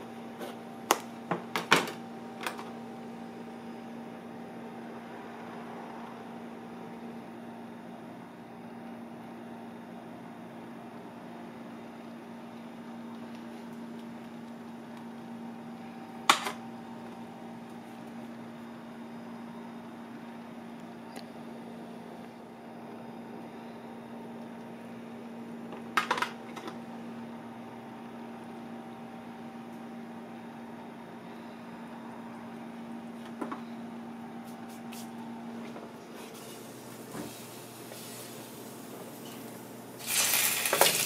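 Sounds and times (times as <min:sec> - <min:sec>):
kitchen equipment humming: 0:00.0 - 0:41.0.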